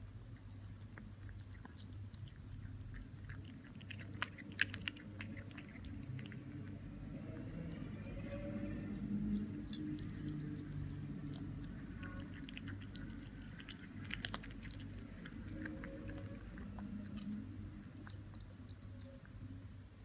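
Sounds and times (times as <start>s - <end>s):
kitten chewing meat: 0.0s - 20.0s
low steady hum: 0.0s - 20.0s.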